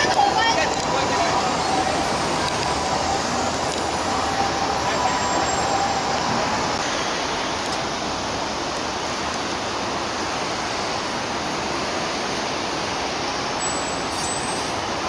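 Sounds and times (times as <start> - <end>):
city traffic hiss: 0.0 - 15.0.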